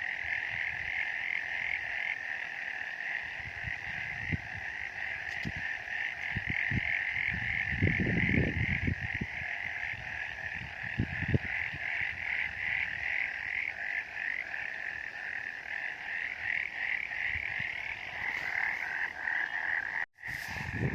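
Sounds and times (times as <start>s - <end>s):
chorus of frogs calling: 0.0s - 20.9s.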